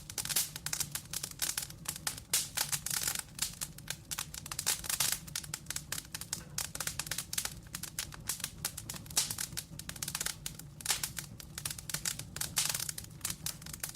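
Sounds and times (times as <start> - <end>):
burning wood popping and snapping: 0.0 - 13.9
low rumble of flame: 0.0 - 13.9.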